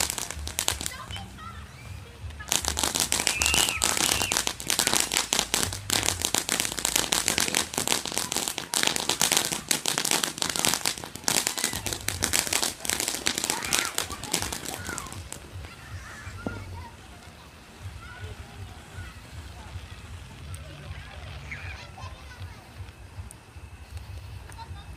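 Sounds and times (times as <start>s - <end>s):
fireworks crackling: 0.0s - 24.9s.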